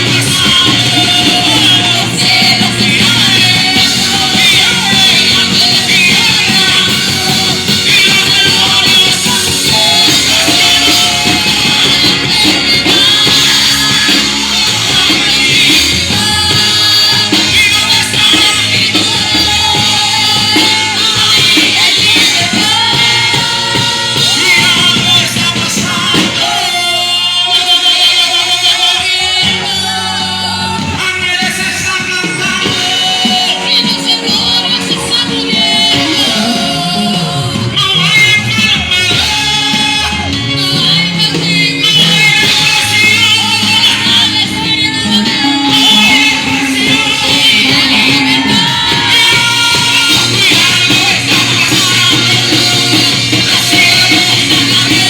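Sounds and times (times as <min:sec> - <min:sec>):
live worship band music: 0:00.0 - 0:55.0.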